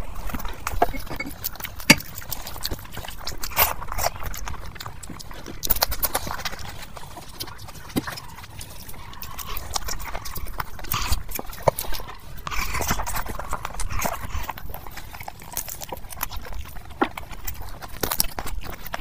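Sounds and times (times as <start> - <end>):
wet chewing and lip smacking: 0.0 - 19.0.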